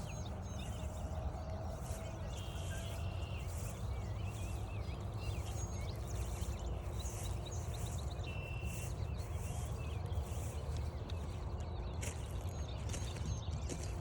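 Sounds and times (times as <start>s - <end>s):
footsteps at walking pace: 0.0s - 14.0s
songbirds chirping and calling: 0.0s - 14.0s.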